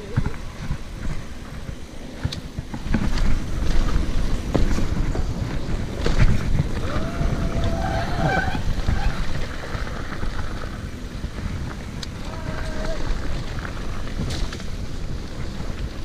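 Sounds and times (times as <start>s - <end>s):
bike clicks and rattles: 0.0s - 16.0s
bike tyres rumbling on dirt: 0.0s - 16.0s
wind on microphone: 0.0s - 16.0s.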